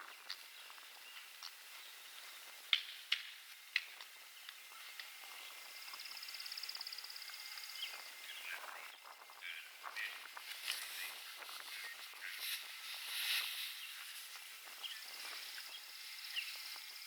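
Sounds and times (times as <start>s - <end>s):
outdoor field ambience: 0.0s - 17.0s.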